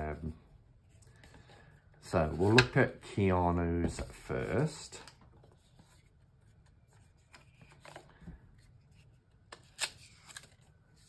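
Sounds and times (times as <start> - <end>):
cards sliding and rustling: 0.7 - 11.0.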